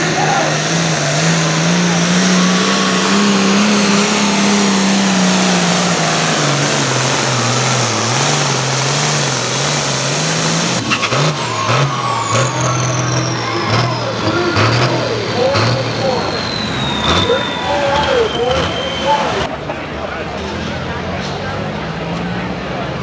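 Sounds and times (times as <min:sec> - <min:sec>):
turbo whine winding down: 0:00.0 - 0:19.5
diesel tractor engine at full throttle: 0:00.0 - 0:23.0.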